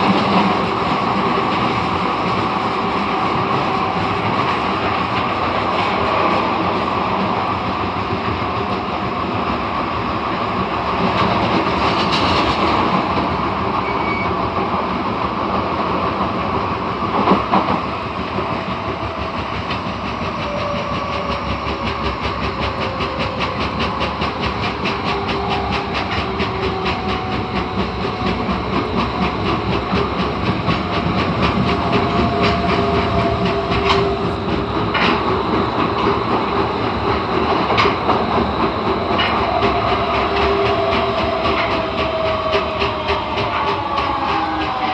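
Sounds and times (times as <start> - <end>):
subway train running noise: 0.0 - 44.9.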